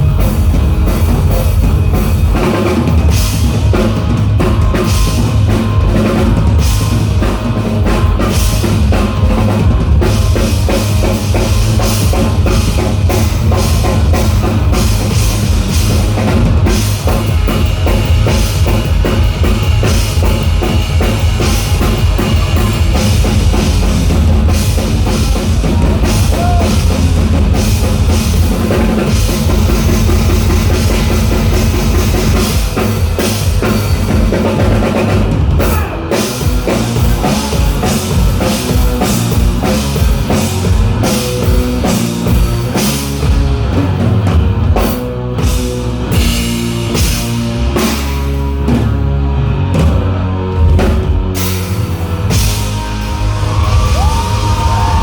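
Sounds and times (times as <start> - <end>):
bass guitar: 0.0 - 55.0
drum kit: 0.0 - 55.0
rock band playing loudly: 0.0 - 55.0.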